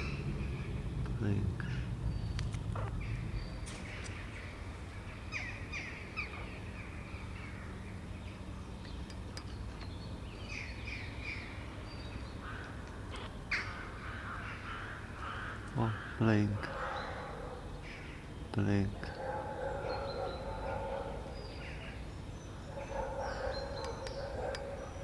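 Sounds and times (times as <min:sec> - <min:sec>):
bird calling: 0:00.0 - 0:25.0
low background rumble: 0:00.0 - 0:25.0.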